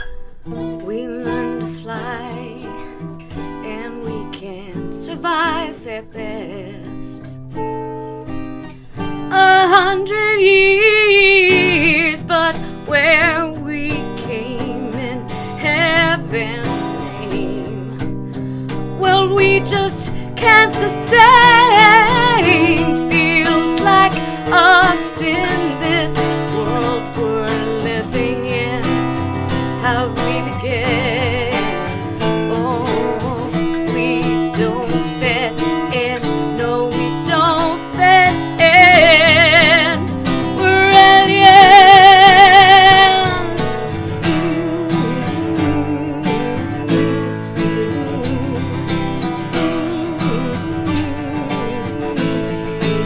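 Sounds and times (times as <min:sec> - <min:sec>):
woman singing with vibrato: 0:00.0 - 0:07.4, 0:09.2 - 0:53.0
acoustic guitar strumming: 0:00.0 - 0:53.0.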